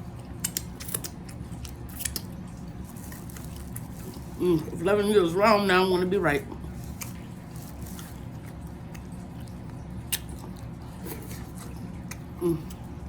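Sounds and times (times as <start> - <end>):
chewing and biting: 0.2 - 4.8, 6.6 - 12.8.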